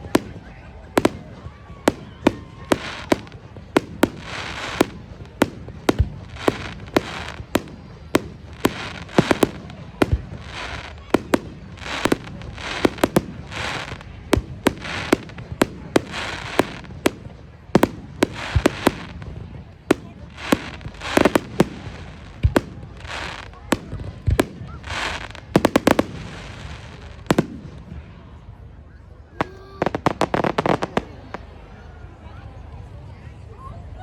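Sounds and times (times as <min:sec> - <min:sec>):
fireworks bangs: 0:00.0 - 0:28.3, 0:29.4 - 0:31.7.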